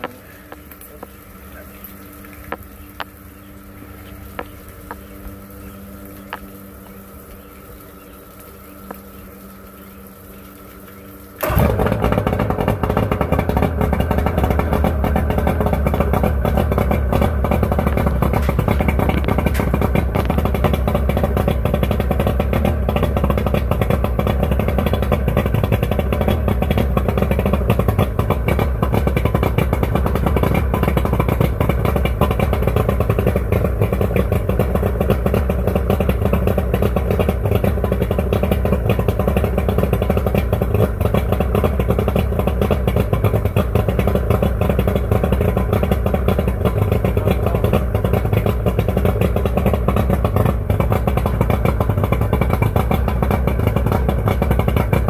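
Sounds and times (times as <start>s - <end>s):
outboard motor idling: 0.0s - 55.0s.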